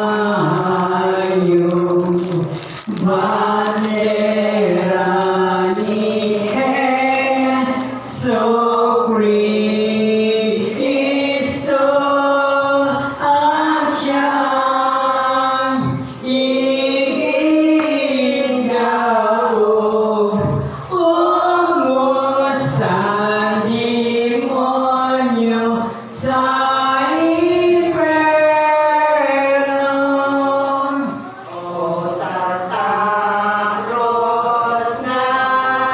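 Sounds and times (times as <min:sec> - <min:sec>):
group singing a devotional hymn: 0:00.0 - 0:35.9.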